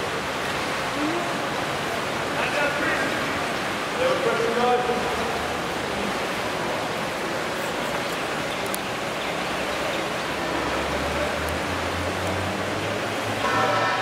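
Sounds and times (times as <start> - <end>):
pool water splashing: 0.0 - 14.0.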